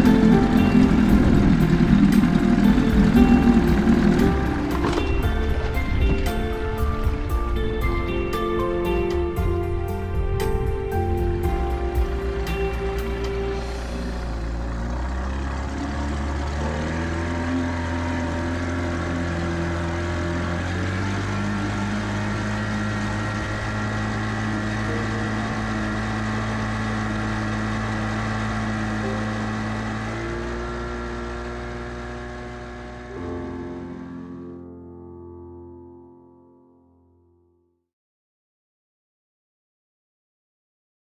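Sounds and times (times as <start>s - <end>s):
outboard motor running: 0.0s - 35.1s.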